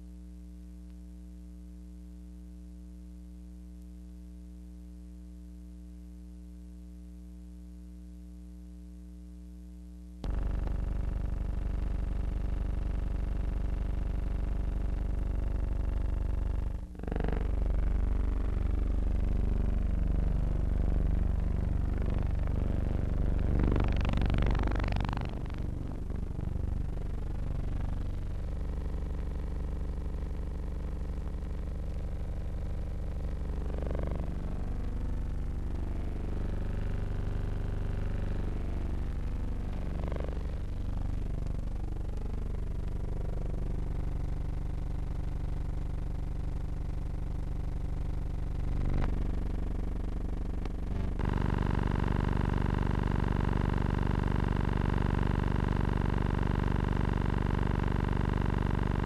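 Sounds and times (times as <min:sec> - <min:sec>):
engine drone: 0:10.2 - 0:59.0.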